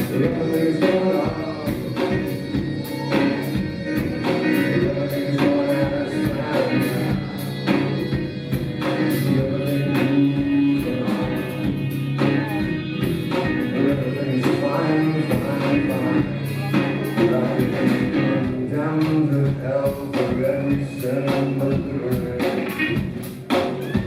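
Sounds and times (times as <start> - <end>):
drums keeping steady beat: 0.0 - 24.0
live rock band playing: 0.0 - 24.0.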